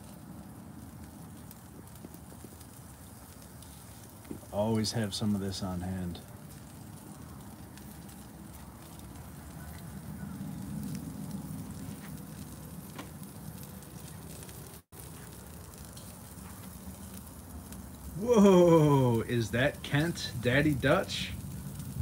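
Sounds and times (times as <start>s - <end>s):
charcoal crackling: 0.0s - 22.0s
meat sizzling on a grill: 0.0s - 22.0s.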